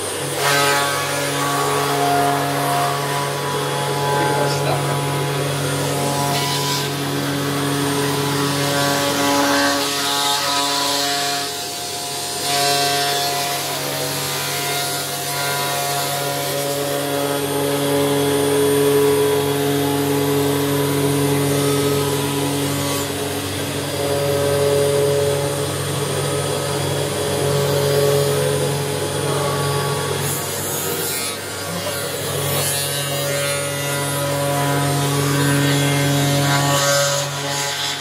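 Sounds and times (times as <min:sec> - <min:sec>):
router whining through plastic: 0:00.0 - 0:38.0.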